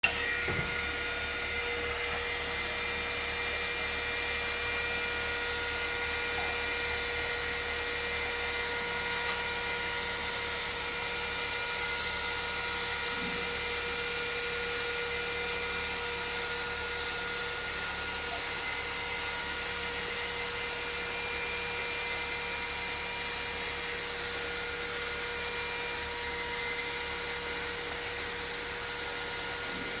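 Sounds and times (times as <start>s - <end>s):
welding machine motor hum and whine: 0.0s - 30.0s.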